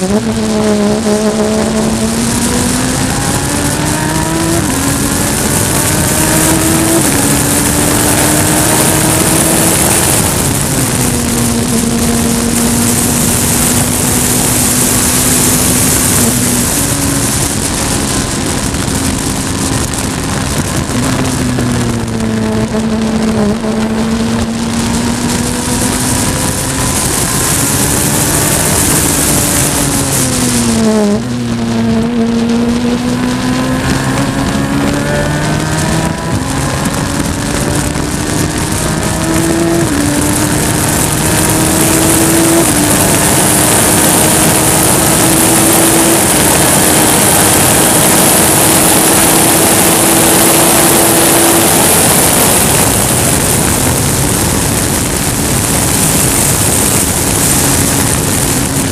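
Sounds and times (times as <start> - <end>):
race car engine revving: 0.0 - 58.9
rushing wind noise: 0.0 - 58.9.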